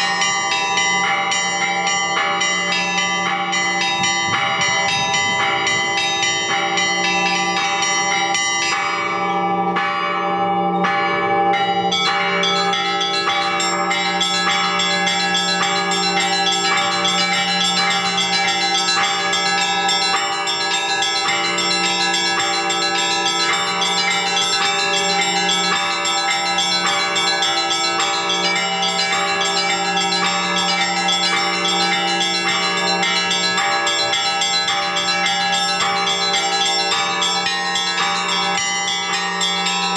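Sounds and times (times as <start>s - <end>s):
hum of large bells: 0.0s - 39.9s
small church bells ringing fast: 0.0s - 39.9s.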